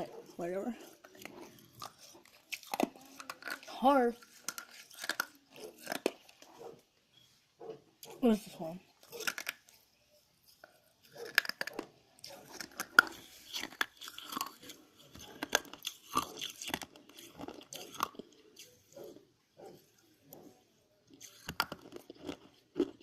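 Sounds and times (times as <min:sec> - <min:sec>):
person chewing crunchy food: 0:00.0 - 0:06.8, 0:09.0 - 0:09.8, 0:10.4 - 0:23.0.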